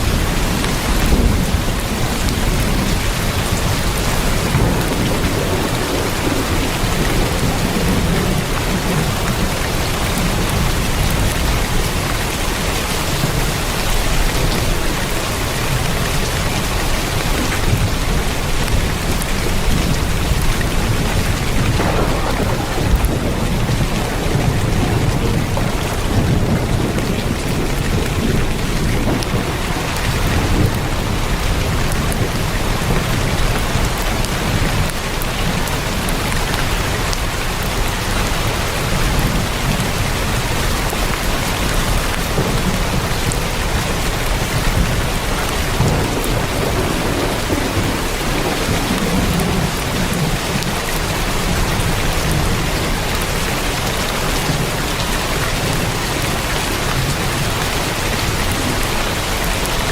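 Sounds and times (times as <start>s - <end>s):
heavy rain on a tin roof: 0.0s - 59.9s.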